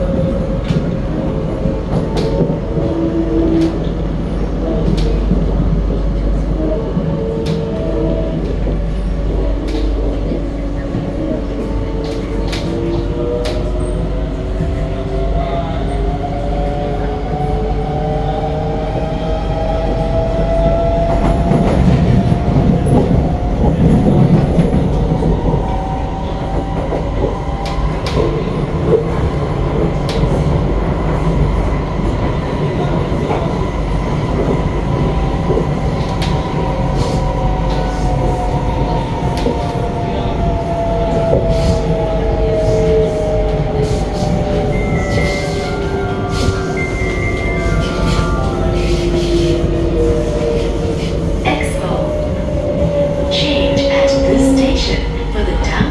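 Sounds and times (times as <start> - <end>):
wheels rumbling on rail: 0.0 - 55.9.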